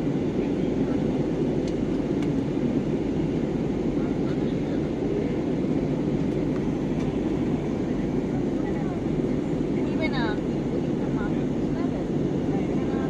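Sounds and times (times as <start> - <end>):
airliner cabin jet engine rumble: 0.0 - 13.0.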